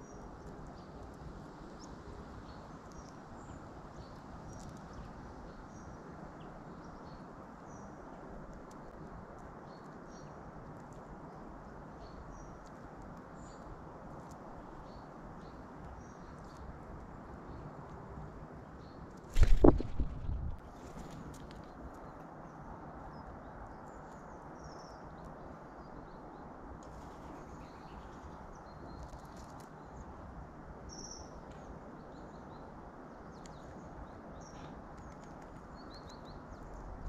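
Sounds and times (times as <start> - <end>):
outdoor hiss and rumble: 0.0 - 37.0
small birds chirping: 0.0 - 37.0.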